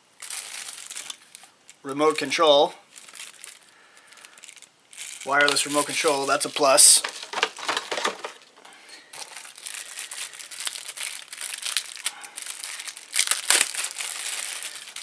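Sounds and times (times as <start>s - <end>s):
plastic bag crinkling: 0.2s - 15.0s.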